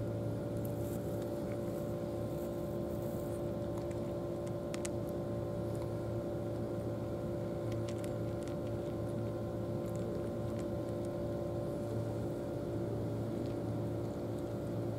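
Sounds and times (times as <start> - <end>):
steady motor drone: 0.0 - 14.9
cat crunching dry kibble: 0.2 - 14.9.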